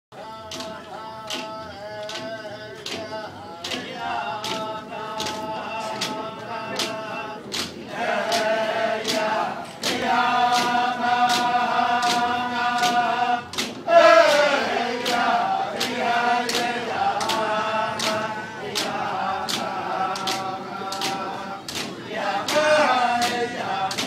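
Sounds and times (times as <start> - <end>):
men singing chant in unison: 0.2 - 24.0.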